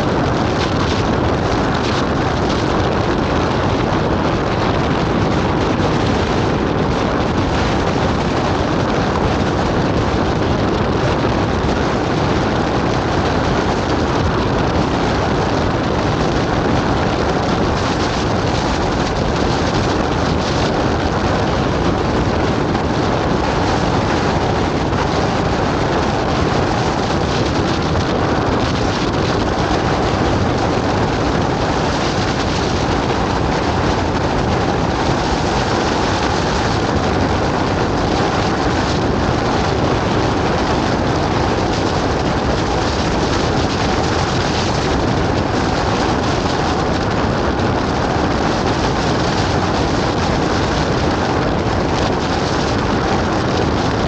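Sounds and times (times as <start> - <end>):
vehicle running noise: 0.0 - 54.0
wind buffeting microphone: 0.0 - 54.0.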